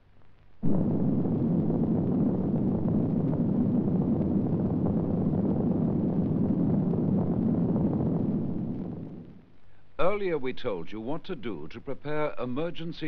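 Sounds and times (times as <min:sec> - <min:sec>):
dense low explosion rumble: 0:00.6 - 0:11.6.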